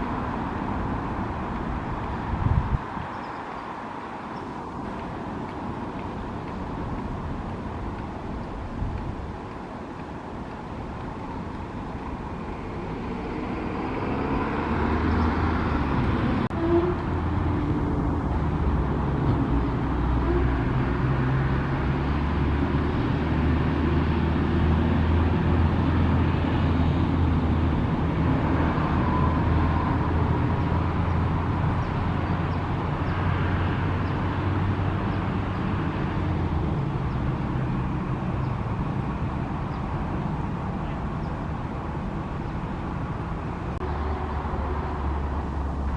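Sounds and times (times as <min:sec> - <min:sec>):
vehicle engine humming: 0:00.0 - 0:45.9.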